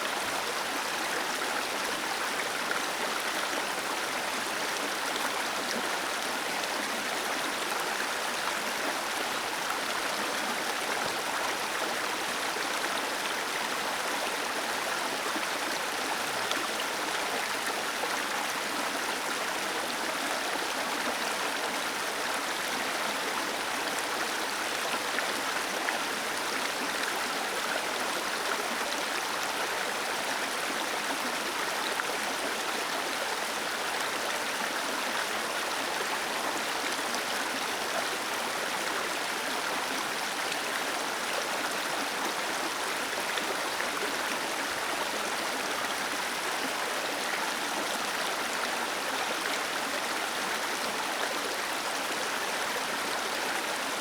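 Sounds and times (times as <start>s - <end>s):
small waterfall cascading: 0.0s - 54.0s.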